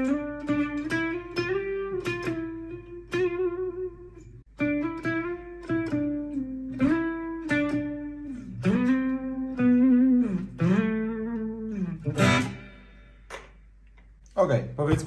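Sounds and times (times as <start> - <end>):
electric guitar lead with bends: 0.0 - 13.3
electric guitar strum: 0.0 - 13.5.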